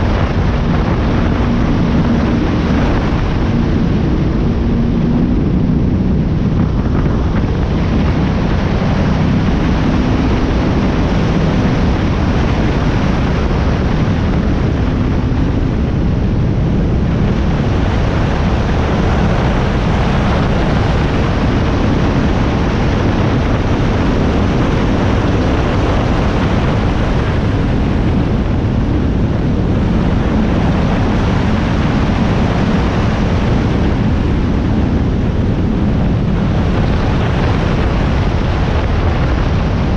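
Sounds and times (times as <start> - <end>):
faint engine hum: 0.0 - 39.9
powerboat engine roaring: 0.0 - 39.9
wind on microphone: 0.0 - 39.9.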